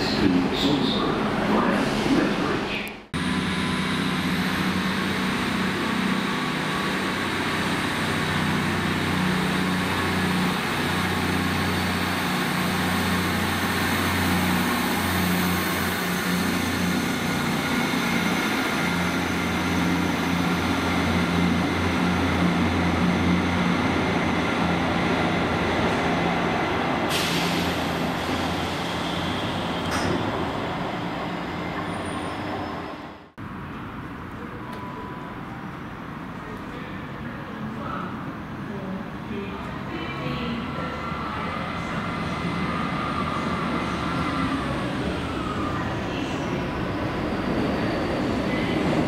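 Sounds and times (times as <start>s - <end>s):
train engine droning: 0.0s - 49.0s.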